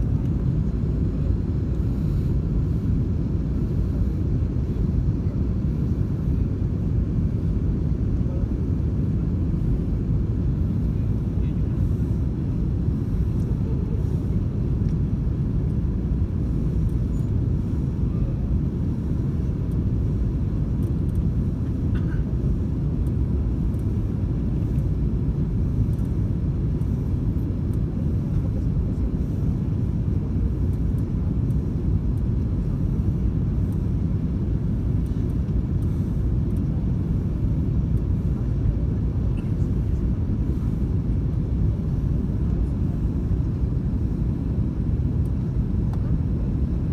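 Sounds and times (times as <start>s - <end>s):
jet engine rumble in cabin: 0.0s - 46.9s.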